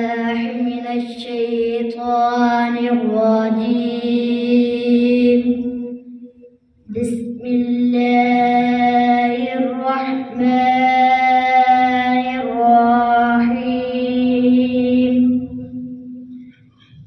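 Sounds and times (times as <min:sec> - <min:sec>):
boy chanting melodically: 0:00.0 - 0:06.0, 0:06.9 - 0:16.6.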